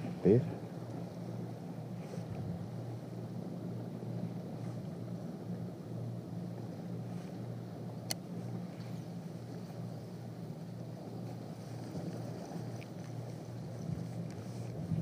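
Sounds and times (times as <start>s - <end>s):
boat engine drone: 0.0s - 15.0s
water noise: 0.0s - 15.0s
wind: 0.0s - 15.0s.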